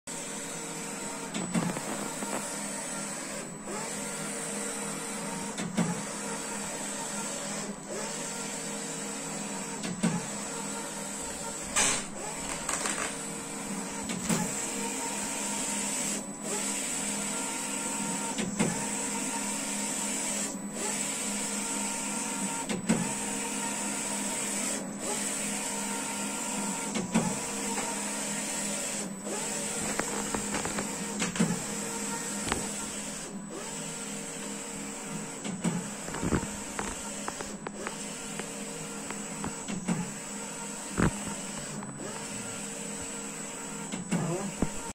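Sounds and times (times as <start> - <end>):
inkjet printer carriage motor whine: 0.1 - 44.9.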